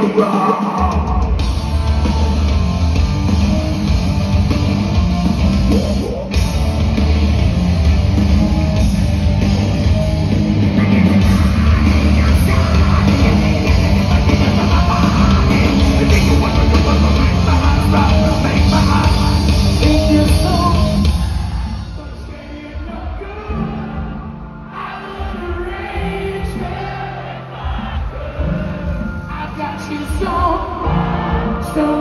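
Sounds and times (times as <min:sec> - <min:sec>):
heavy rock band playing: 0:00.0 - 0:32.0.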